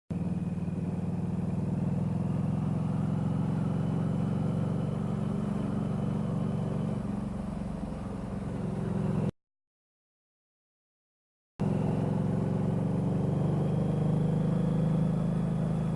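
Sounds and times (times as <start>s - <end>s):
motorcycle engine running: 0.1s - 9.3s, 11.6s - 15.9s.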